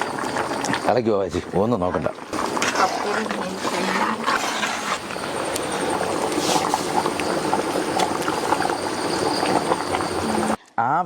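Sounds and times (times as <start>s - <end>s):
curry bubbling in a pot: 0.0s - 10.6s.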